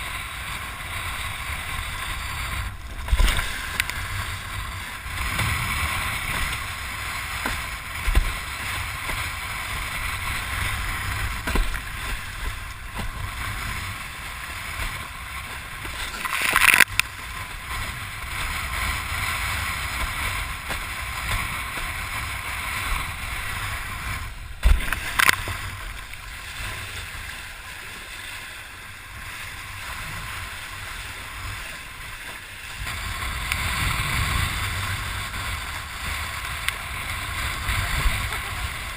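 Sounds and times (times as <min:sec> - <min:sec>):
rush of water and wind: 0:00.0 - 0:38.9.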